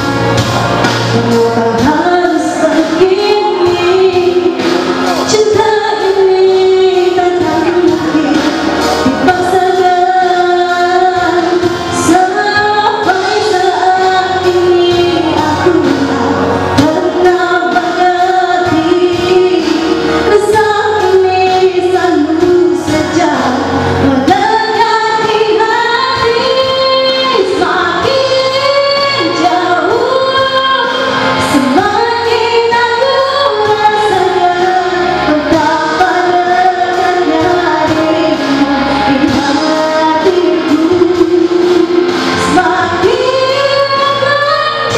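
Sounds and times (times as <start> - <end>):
instrumental accompaniment: 0.0 - 44.9
woman singing into microphone: 0.0 - 44.9.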